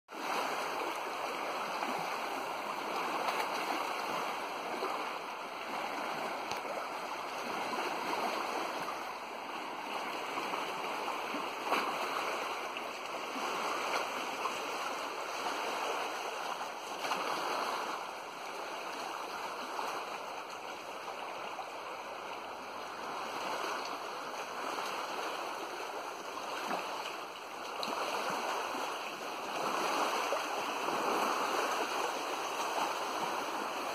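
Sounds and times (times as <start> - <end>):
water rushing: 0.1 - 33.9.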